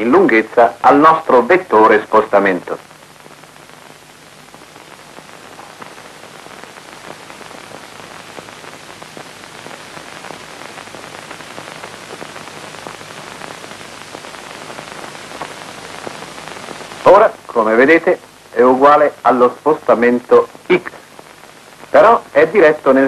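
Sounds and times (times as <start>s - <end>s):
film soundtrack hiss and crackle: 0.0s - 23.0s.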